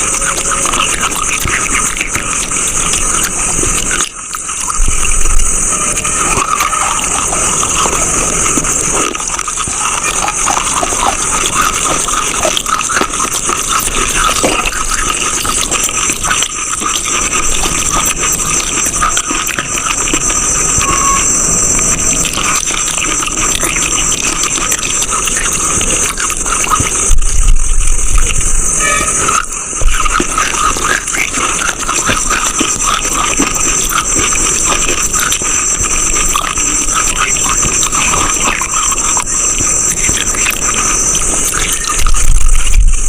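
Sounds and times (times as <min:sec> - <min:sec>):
chewing crunchy mineral: 0:00.0 - 0:43.0.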